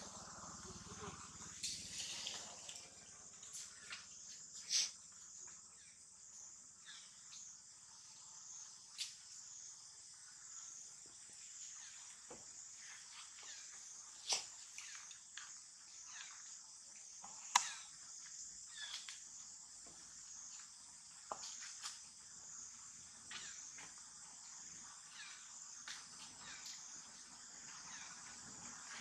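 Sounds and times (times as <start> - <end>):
faint insect chorus drone: 0.0 - 29.0.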